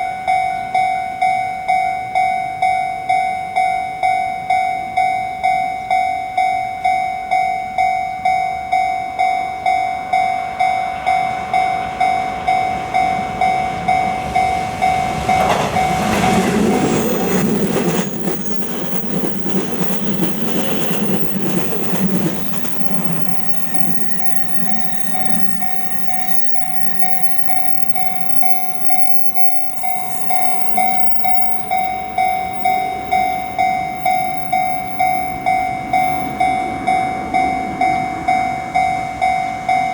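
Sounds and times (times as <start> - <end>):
level crossing alarm bell: 0.0 - 39.9
train passing: 0.0 - 39.9.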